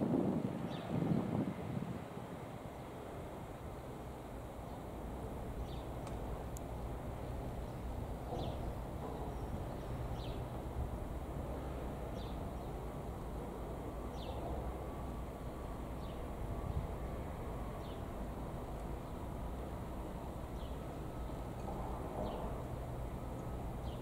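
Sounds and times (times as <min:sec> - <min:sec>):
distant train rumbling: 0:00.0 - 0:24.0.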